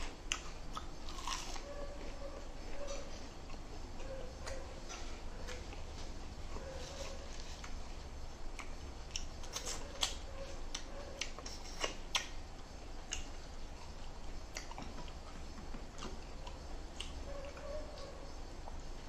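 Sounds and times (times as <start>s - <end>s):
chewing and mouth sounds: 0.0s - 2.2s, 2.8s - 19.0s.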